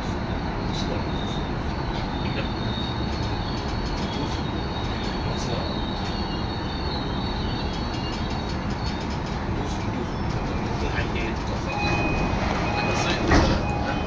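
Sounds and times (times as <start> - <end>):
thin high steady whine: 0.0 - 14.0
train wheels rumbling on rails: 0.0 - 14.0.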